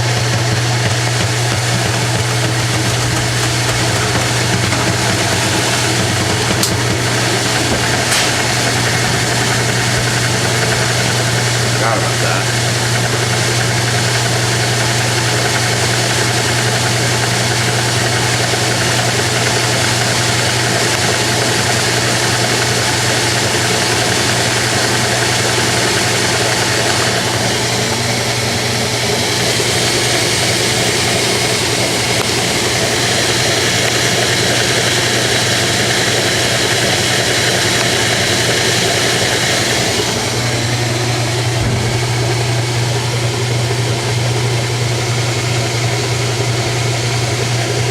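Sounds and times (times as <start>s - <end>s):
washing machine motor hum: 0.0s - 47.9s
washing machine water noise: 0.0s - 47.9s.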